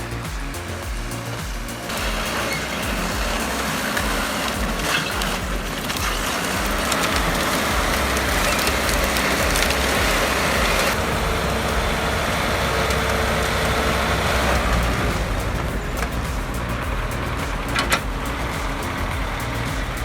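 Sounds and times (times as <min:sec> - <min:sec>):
heavy machinery engine rumble: 0:00.0 - 0:20.0
rushing rattling noise: 0:00.0 - 0:20.0.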